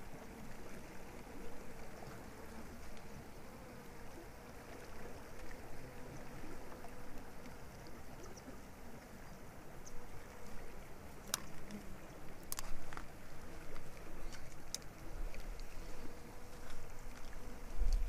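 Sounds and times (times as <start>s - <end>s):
flowing creek water: 0.0s - 18.0s.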